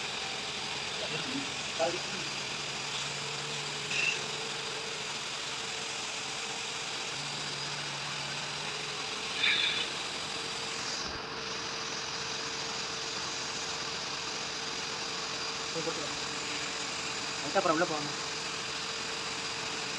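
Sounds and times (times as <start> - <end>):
workshop machine hum: 0.0 - 19.9.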